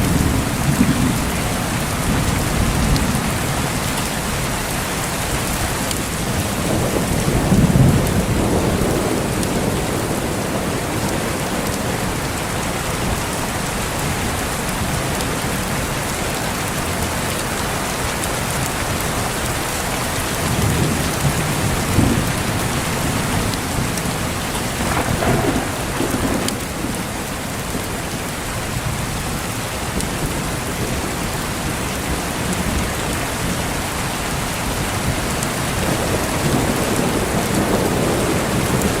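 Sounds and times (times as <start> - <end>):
thunder rumbling: 0.0 - 4.7, 5.3 - 15.9, 20.4 - 33.9, 34.7 - 39.0
heavy rain: 0.0 - 39.0.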